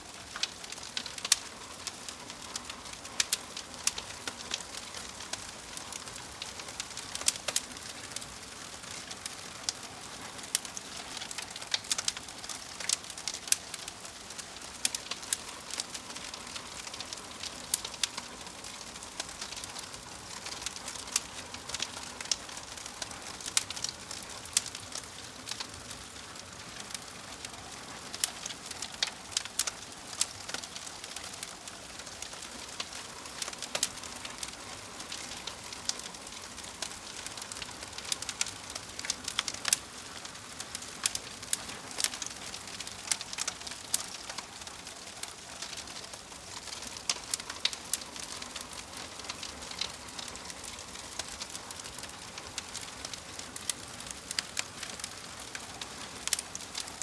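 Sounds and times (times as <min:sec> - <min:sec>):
fire crackling and popping: 0:00.0 - 0:57.0
logs burning in fireplace: 0:00.0 - 0:57.0.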